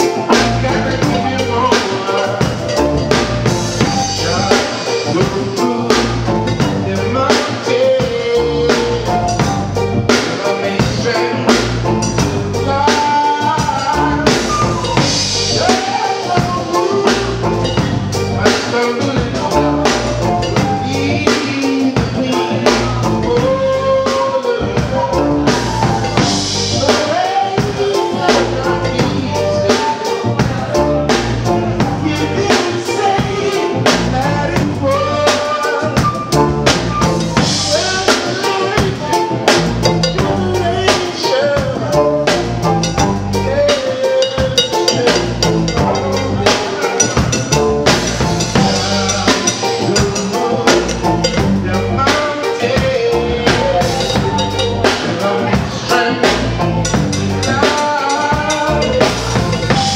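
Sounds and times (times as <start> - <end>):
electric guitar: 0.0 - 59.9
live reggae band: 0.0 - 59.9.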